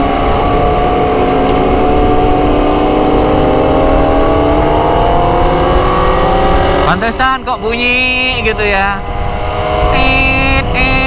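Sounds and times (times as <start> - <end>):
motorcycle engine rising in pitch: 0.0 - 11.0
wind and road noise: 0.0 - 11.0.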